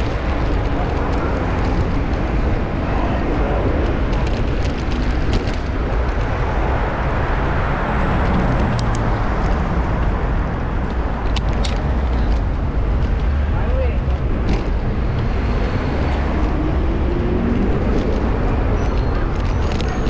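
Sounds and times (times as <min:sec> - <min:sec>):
road traffic: 0:00.0 - 0:20.0
wind rumble on microphone: 0:00.0 - 0:20.0.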